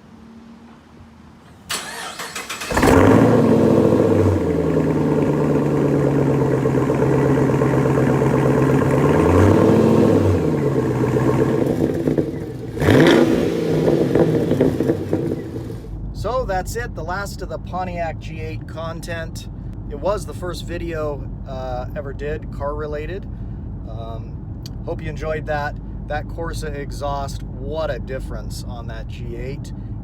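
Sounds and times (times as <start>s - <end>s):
car engine starting and idling: 0.0s - 30.0s
engine revving: 1.4s - 30.0s.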